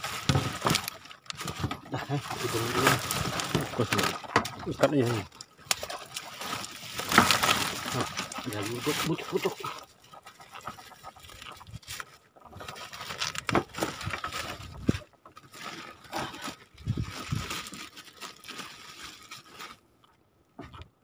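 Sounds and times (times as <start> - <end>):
fishing net scraping and rustling: 0.0 - 19.9.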